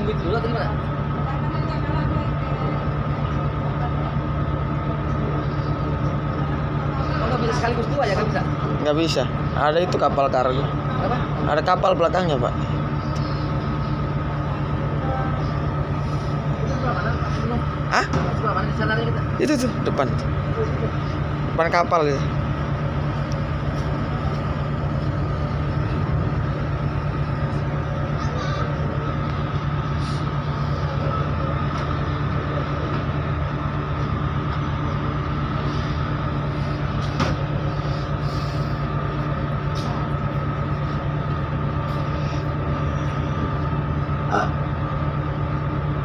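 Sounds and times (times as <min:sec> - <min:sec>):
ship engines droning: 0:00.0 - 0:46.0.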